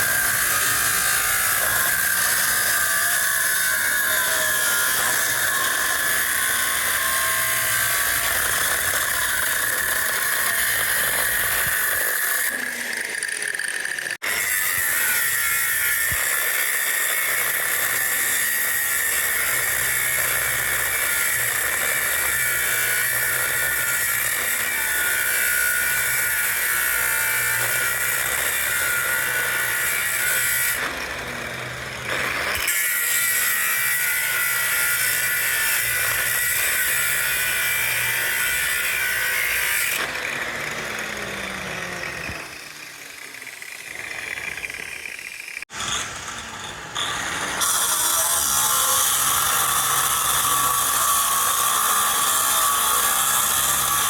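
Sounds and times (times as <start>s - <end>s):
power tool grinding metal: 0.0s - 54.0s.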